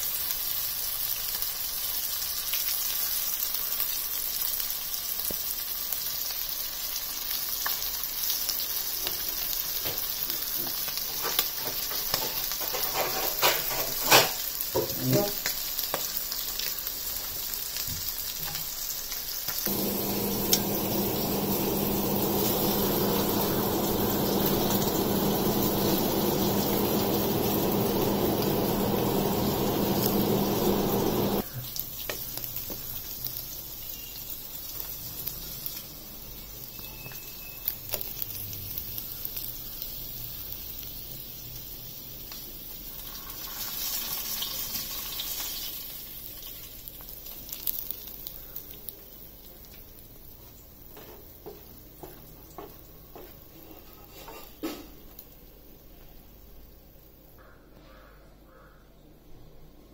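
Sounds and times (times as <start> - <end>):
fish sizzling in oil: 0.0 - 51.4.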